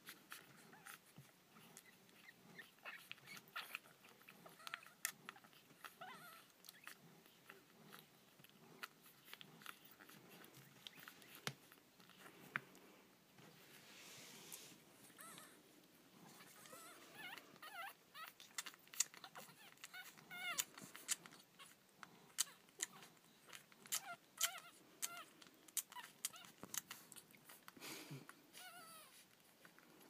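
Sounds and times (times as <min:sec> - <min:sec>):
puppies squeaking and whimpering: 0:00.0 - 0:12.6, 0:14.7 - 0:27.8, 0:28.4 - 0:29.8
puppies suckling clicks: 0:00.0 - 0:13.5, 0:15.2 - 0:30.0.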